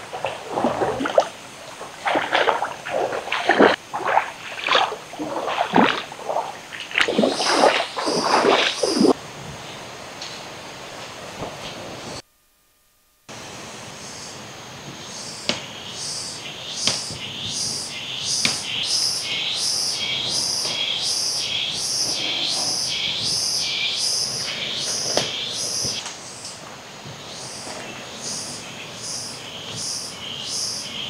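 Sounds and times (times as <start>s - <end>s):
insect pulsing call: 0.0s - 10.7s, 13.3s - 31.0s.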